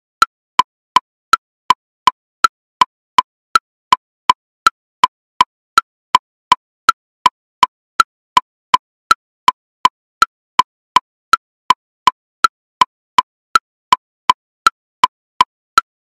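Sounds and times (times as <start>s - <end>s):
metronome woodblock clicks: 0.0s - 16.0s.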